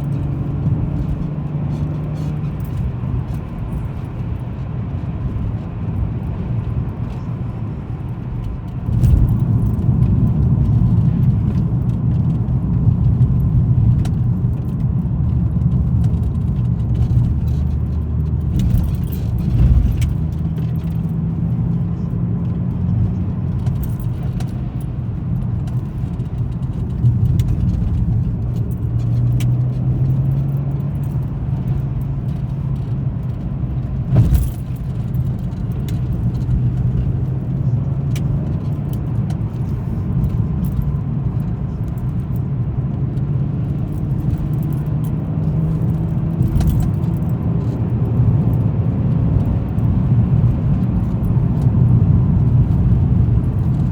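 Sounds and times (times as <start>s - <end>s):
car engine and tyre noise: 0.0s - 53.9s.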